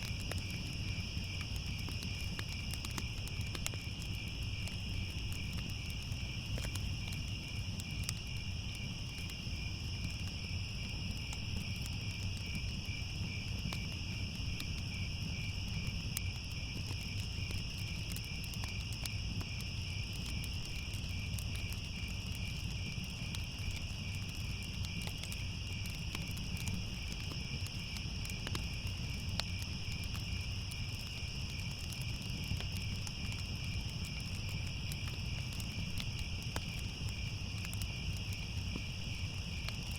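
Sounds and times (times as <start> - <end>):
crickets chirping: 0.0 - 39.9
faint fire crackles: 0.0 - 39.9
low fire rumble: 0.0 - 39.9.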